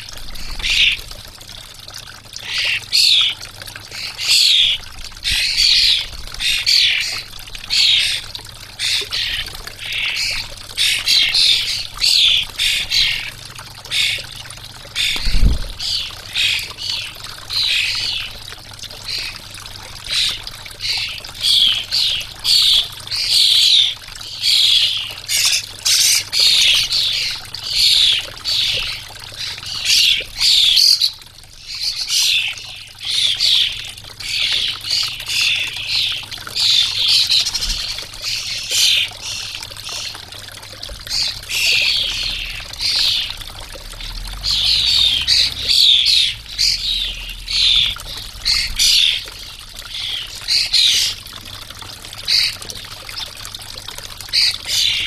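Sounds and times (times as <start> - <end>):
fountain water trickling: 0.0 - 55.0.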